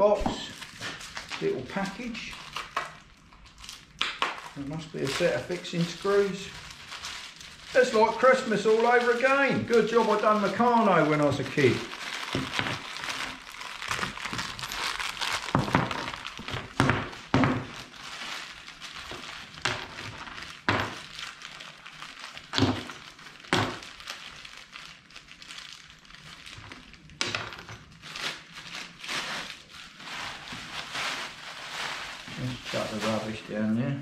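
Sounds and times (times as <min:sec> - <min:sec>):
packaging rustling and crinkling: 0:00.0 - 0:33.9.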